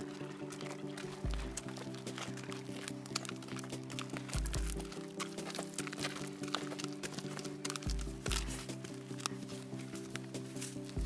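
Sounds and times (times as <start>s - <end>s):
music of held notes: 0.0s - 11.0s.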